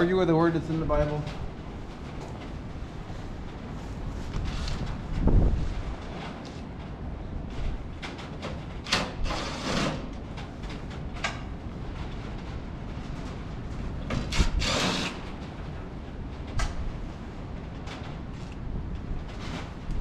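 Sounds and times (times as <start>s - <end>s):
low rumble of wind: 0.0s - 20.0s.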